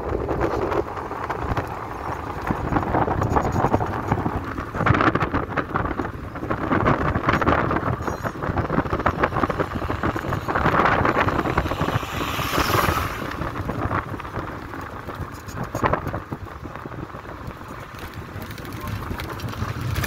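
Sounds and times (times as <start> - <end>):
road and engine noise: 0.0 - 20.0
wind rushing over microphone: 0.0 - 20.0.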